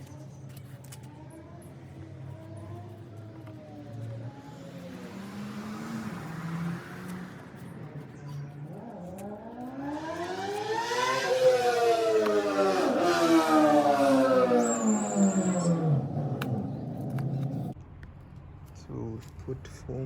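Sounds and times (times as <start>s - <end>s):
engine revving: 1.1s - 17.8s.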